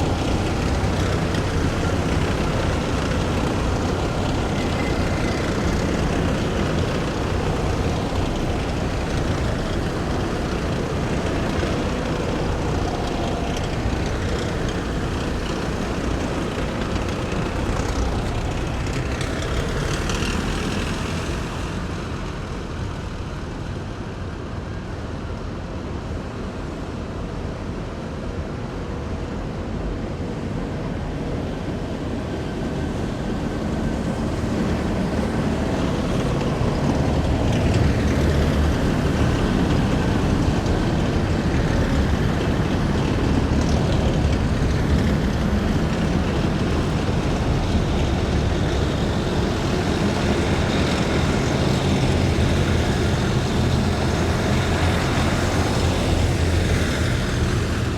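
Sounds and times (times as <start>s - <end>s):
heavy vehicle engines rumbling: 0.0s - 57.9s.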